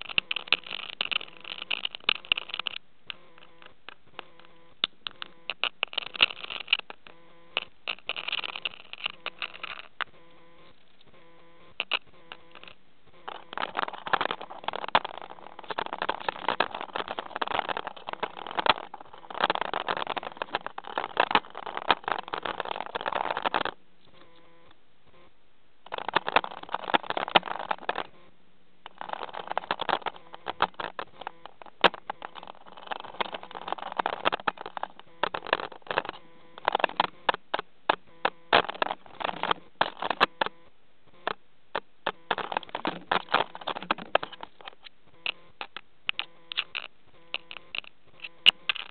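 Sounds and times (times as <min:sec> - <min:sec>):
bird pecking at microphone: 0:00.0 - 0:24.7, 0:25.8 - 0:28.2, 0:28.8 - 0:40.6, 0:41.2 - 0:48.9.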